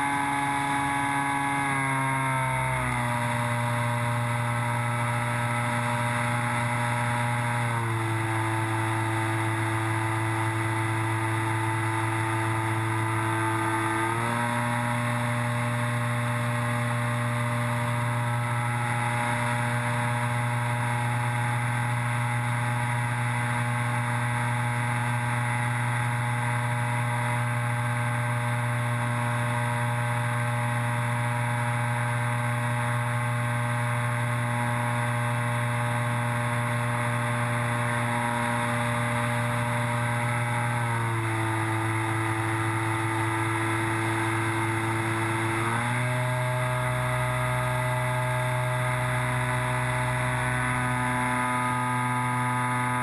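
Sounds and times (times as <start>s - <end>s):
model plane electric motor and propeller: 0.0s - 53.0s.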